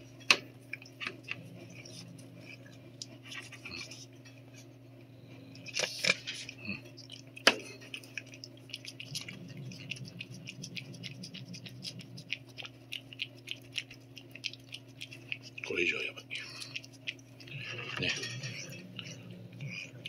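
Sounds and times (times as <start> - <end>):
cat licking: 0.6 - 4.2, 5.5 - 20.0.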